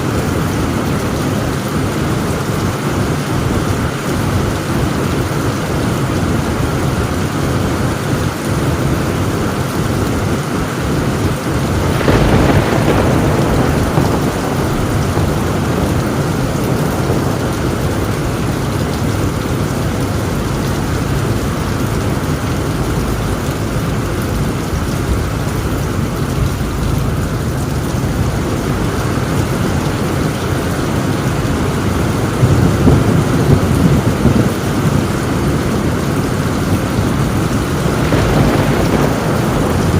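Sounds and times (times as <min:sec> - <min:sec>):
heavy rain on a tin roof: 0:00.0 - 0:39.9
thunder rumble: 0:00.0 - 0:39.9.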